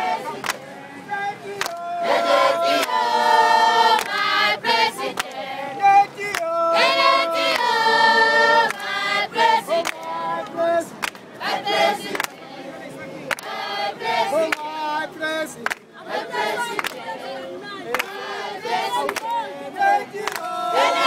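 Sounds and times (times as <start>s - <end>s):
choir singing: 0.0s - 15.2s, 16.0s - 21.0s.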